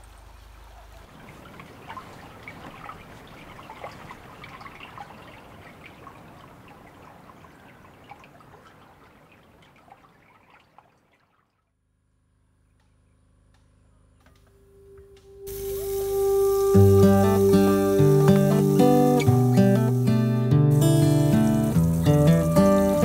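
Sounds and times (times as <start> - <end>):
stream babbling over stones: 0.0 - 11.0, 15.5 - 23.0.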